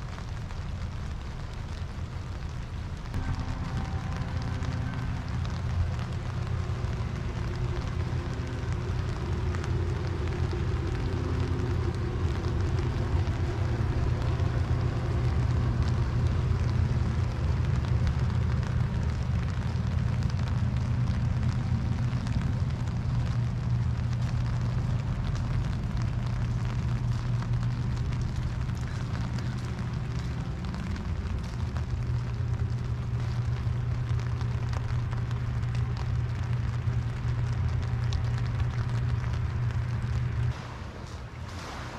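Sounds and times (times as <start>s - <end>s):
low rumble: 0.0s - 41.9s
steady rain: 0.0s - 41.9s.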